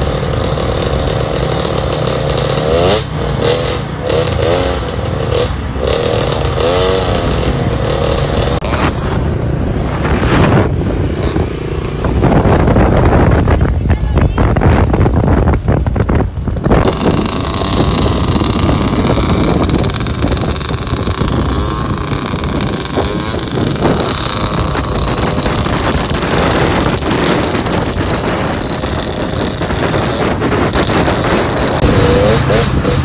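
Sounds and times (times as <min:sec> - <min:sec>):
motorcycle engines running: 0:00.0 - 0:33.0
wind over microphone: 0:00.0 - 0:33.0.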